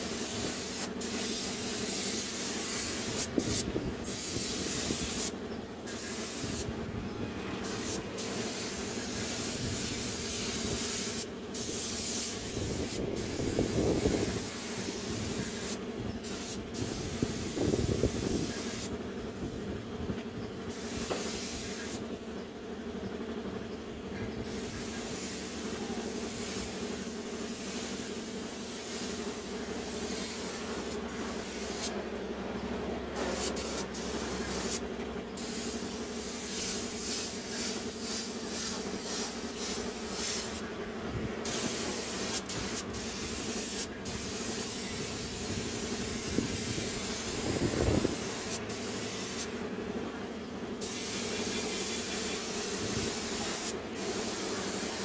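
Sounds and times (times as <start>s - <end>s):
paint spray gun hissing: 0.0s - 6.8s, 7.5s - 19.7s, 20.4s - 22.2s, 24.4s - 49.9s, 50.7s - 55.0s.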